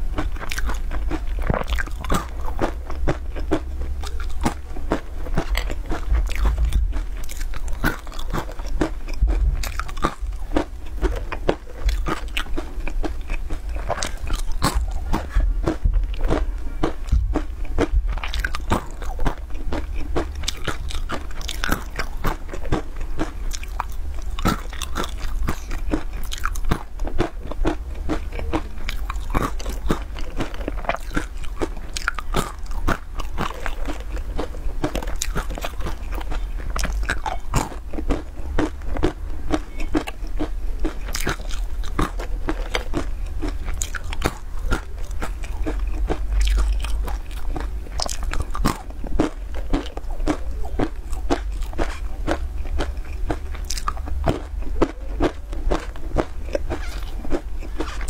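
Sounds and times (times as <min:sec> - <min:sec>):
crunching and chewing nuts: 0:00.0 - 0:58.0.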